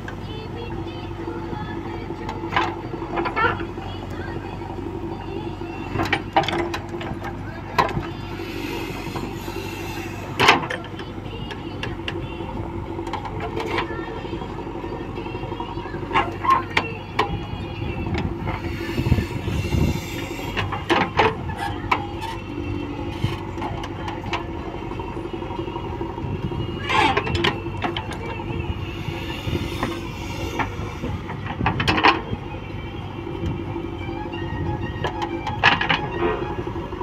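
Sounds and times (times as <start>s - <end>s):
backhoe arm clanking: 0.0s - 37.0s
diesel engine running under load: 0.0s - 37.0s.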